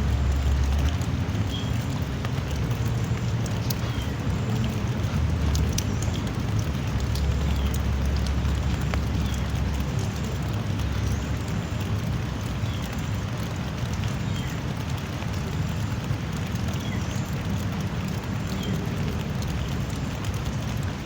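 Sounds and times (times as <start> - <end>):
drizzling rain: 0.0 - 21.0
raindrop ticks: 0.0 - 21.0.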